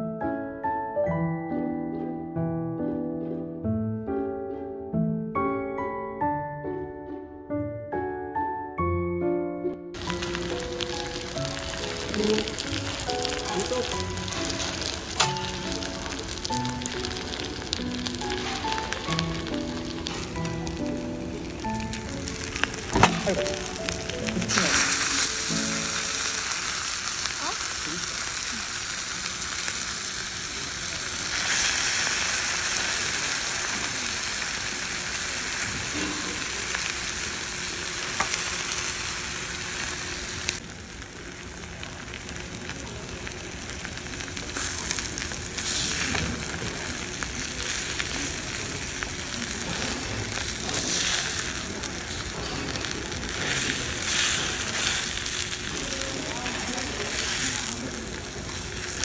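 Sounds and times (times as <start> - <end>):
rice sizzling in stone bowl: 10.0 - 59.0.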